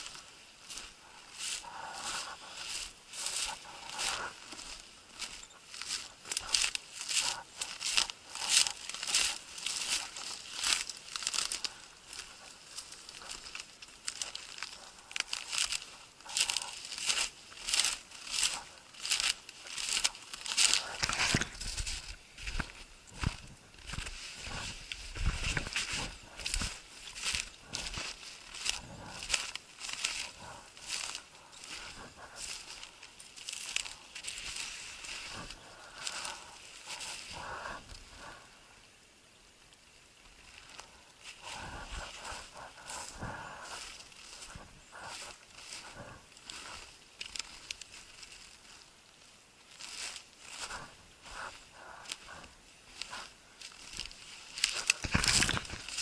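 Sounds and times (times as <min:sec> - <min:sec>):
footsteps crunching through snow: 0:00.0 - 0:38.4, 0:40.4 - 0:56.0.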